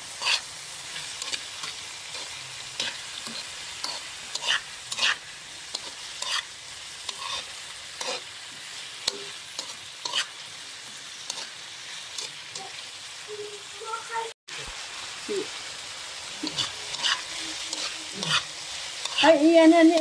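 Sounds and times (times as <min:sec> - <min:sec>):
metal spatula scraping a wok: 0:00.0 - 0:12.7, 0:16.4 - 0:20.0
steady sizzle: 0:00.0 - 0:20.0.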